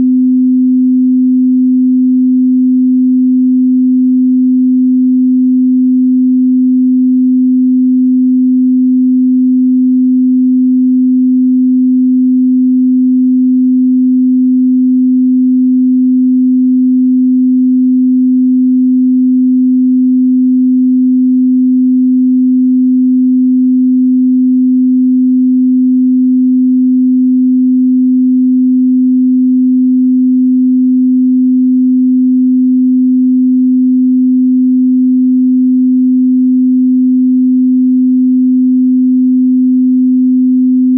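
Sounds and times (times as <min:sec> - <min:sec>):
sine test tone: 0:00.0 - 0:40.9.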